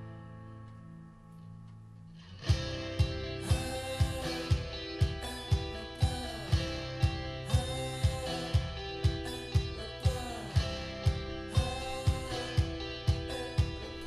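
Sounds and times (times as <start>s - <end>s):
pop music over speakers: 2.4s - 14.0s.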